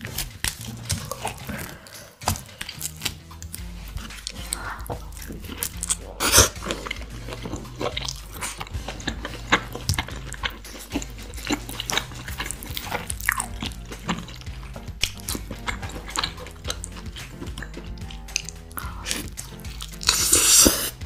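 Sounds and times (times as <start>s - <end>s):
mouth clicks and smacks: 0.0s - 21.0s
person chewing pizza: 0.0s - 21.0s.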